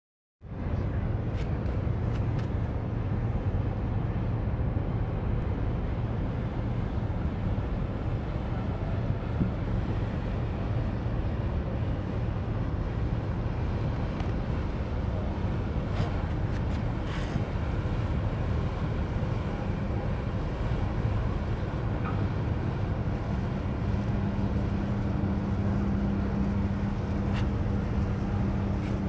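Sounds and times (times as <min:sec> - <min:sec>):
ship diesel engine drone: 0:00.5 - 0:29.0.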